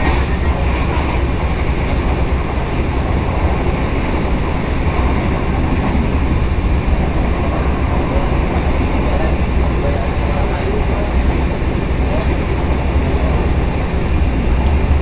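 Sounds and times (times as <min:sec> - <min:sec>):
train carriage rumbling and rushing: 0:00.0 - 0:15.0.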